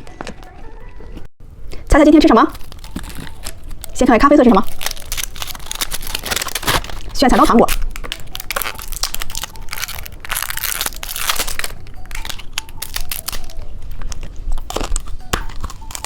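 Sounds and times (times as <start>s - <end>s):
plastic wrapper crinkling: 1.5s - 16.0s.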